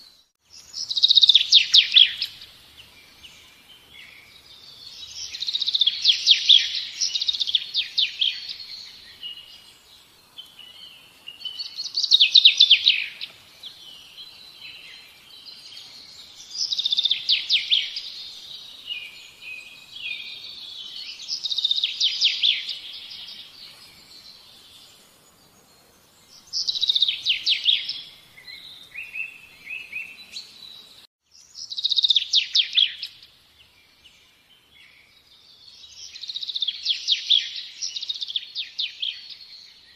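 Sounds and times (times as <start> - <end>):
soft bird twittering: 0.0 - 39.9.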